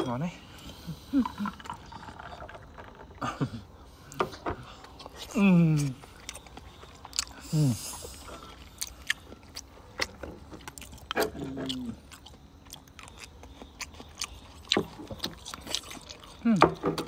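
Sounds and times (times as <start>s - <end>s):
people chewing: 0.0s - 17.0s.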